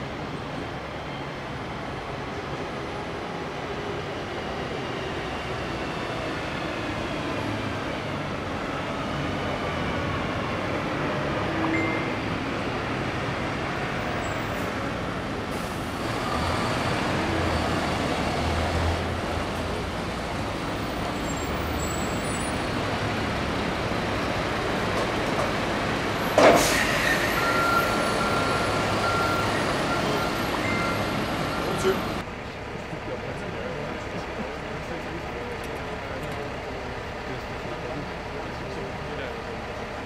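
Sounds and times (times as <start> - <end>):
heavy truck diesel engines: 0.0 - 40.0.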